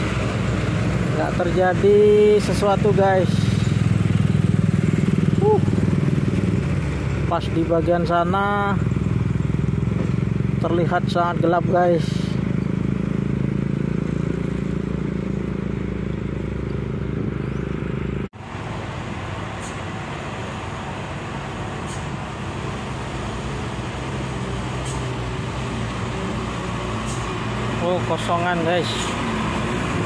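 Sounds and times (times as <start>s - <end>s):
box truck engine approaching: 0.0s - 30.0s
road traffic noise: 0.0s - 30.0s
truck diesel engine droning: 0.0s - 30.0s.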